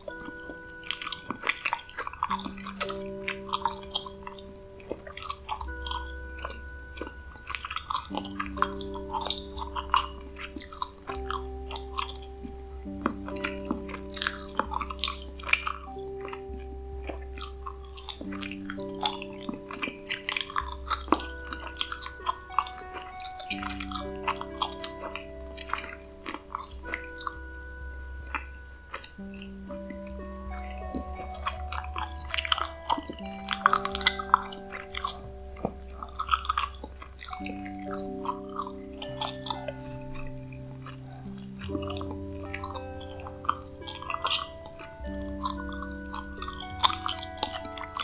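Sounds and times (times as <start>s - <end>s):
slow ambient music: 0.0s - 48.0s
wet gum chewing: 0.0s - 48.0s.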